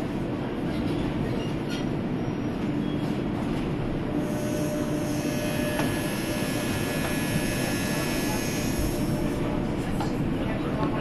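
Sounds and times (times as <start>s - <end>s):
monorail car rumble and hum: 0.0s - 11.0s.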